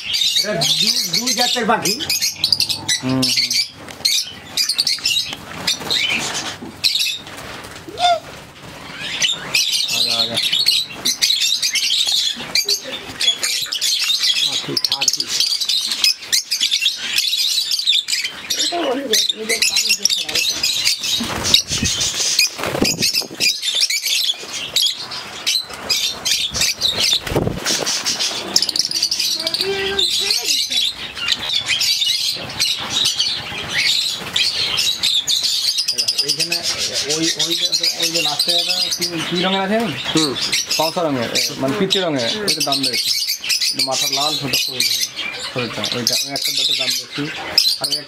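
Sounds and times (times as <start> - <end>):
lovebirds chirping: 0.0 - 48.0
wings flapping: 0.4 - 16.0, 18.4 - 42.2.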